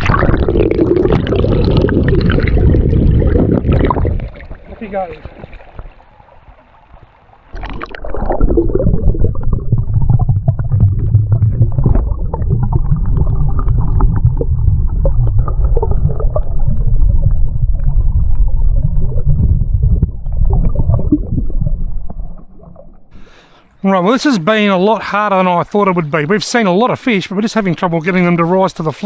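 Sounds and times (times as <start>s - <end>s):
stream heard underwater: 0.0s - 23.8s.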